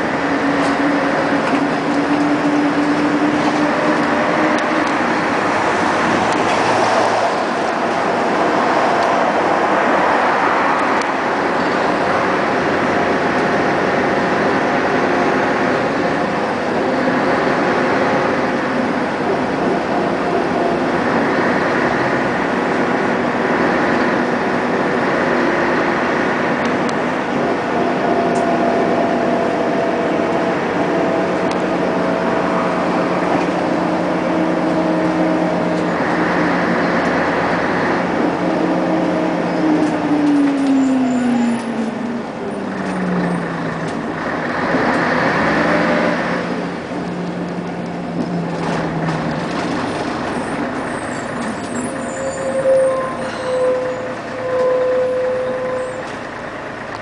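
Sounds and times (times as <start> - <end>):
bus engine whining: 0.0 - 57.0
road noise: 0.0 - 57.0.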